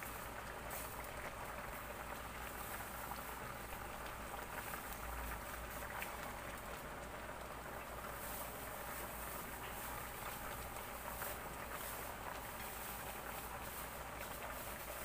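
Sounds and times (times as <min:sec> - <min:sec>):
coconut milk boiling and bubbling: 0:00.0 - 0:15.0.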